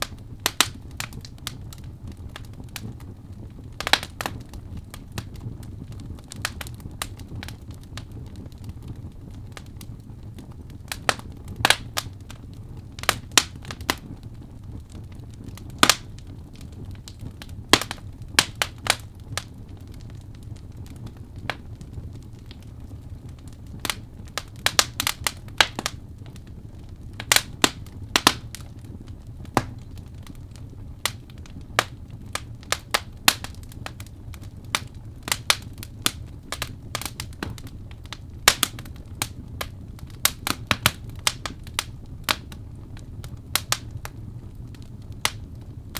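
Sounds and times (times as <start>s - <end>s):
fire crackling and popping: 0.0s - 45.9s
low rumble of fire: 0.0s - 45.9s.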